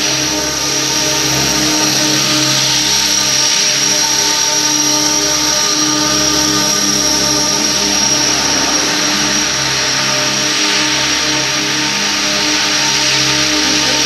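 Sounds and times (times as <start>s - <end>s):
model helicopter whine: 0.0s - 14.0s.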